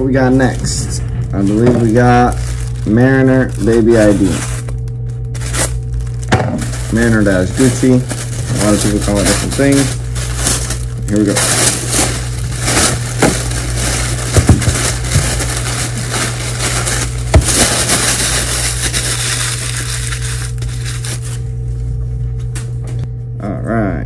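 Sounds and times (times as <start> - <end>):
steady low hum: 0.0 - 24.0
packing wrap crumpling: 0.1 - 21.4.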